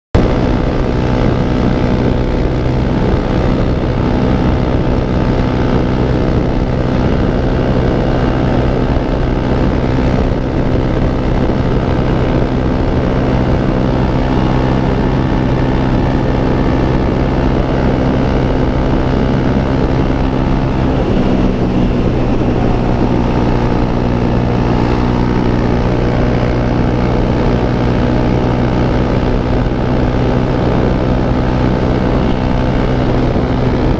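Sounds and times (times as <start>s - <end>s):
engine running steadily: 0.2s - 33.9s.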